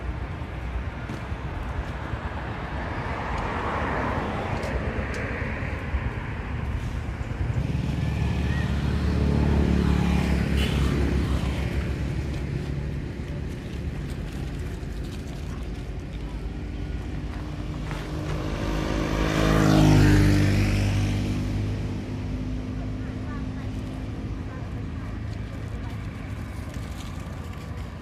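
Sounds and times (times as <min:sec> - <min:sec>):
motor vehicle passing by: 0:02.1 - 0:28.0.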